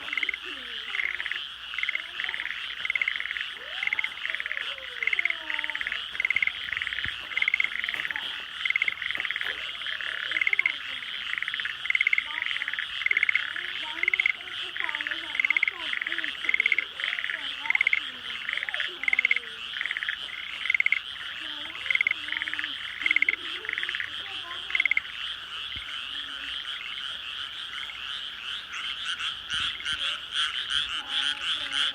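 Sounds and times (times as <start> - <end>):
frog chorus trilling: 0.0 - 31.9
frog pulsed croaks: 0.0 - 31.9.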